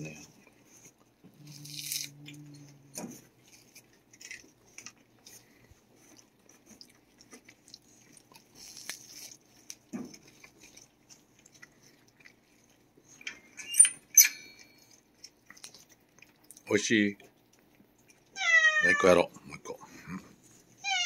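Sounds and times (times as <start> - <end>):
cat chewing and crunching: 0.0 - 21.0.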